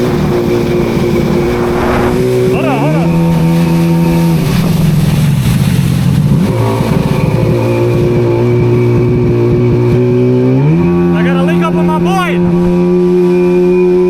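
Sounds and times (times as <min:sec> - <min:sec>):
steady rushing noise: 0:00.0 - 0:13.4
vehicle engine running: 0:00.0 - 0:14.0.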